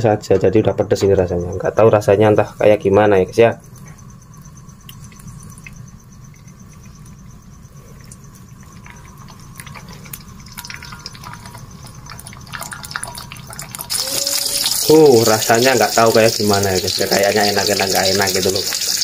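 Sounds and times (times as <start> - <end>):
egg sizzling in oil: 3.7 - 19.0.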